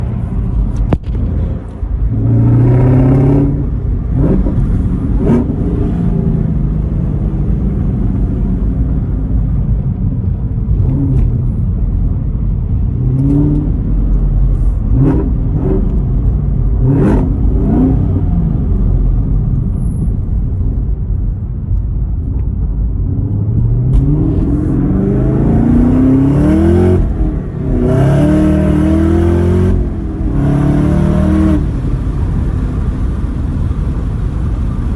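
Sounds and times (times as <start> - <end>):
car engine revving: 0.0 - 20.7, 23.0 - 33.6.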